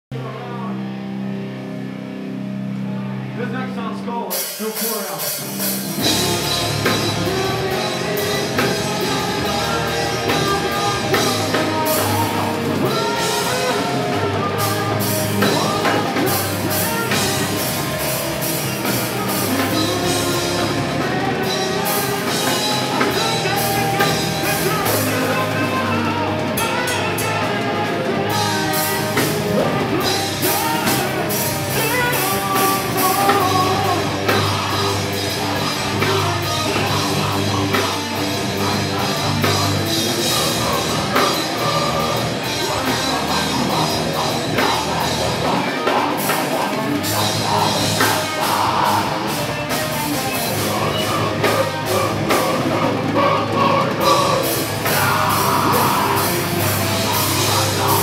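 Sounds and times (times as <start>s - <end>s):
live rock band playing: 0.1s - 58.0s
person singing into microphone: 6.0s - 58.0s.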